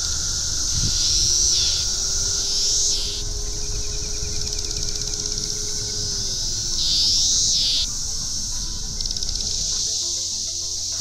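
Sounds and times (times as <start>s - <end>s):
cicada call sliding in pitch: 0.0s - 11.0s
cicadas droning: 0.0s - 11.0s.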